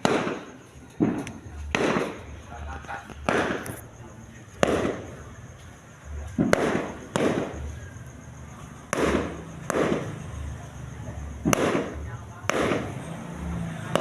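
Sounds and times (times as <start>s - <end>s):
fireworks bangs echoing: 0.0s - 14.0s.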